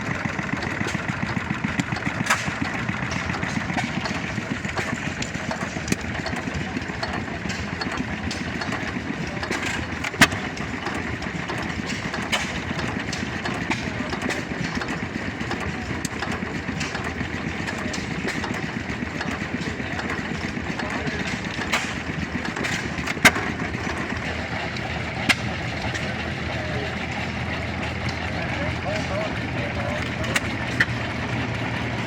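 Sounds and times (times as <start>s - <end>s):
old engine idling: 0.0s - 32.0s.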